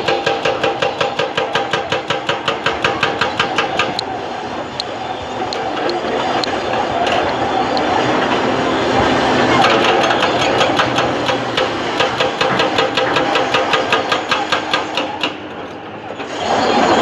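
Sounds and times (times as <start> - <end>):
bulldozer diesel engine under load: 0.0 - 17.0
steel tracks clanking: 0.0 - 17.0.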